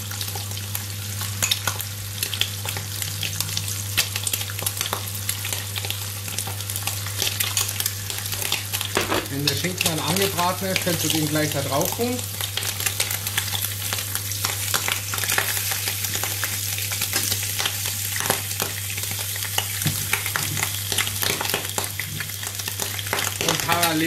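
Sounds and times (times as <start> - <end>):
ham sizzling in a pan: 0.0 - 24.0.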